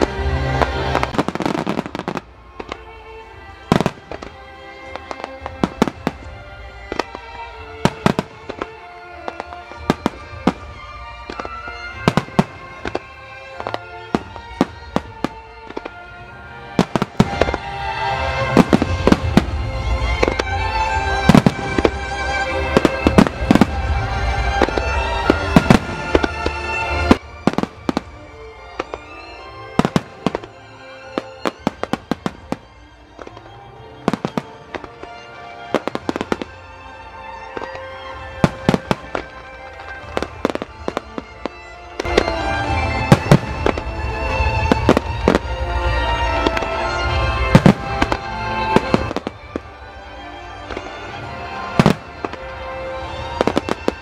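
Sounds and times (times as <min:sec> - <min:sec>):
fireworks bursts and crackling bangs: 0:00.0 - 0:54.0
music of long held tones: 0:00.0 - 0:54.0.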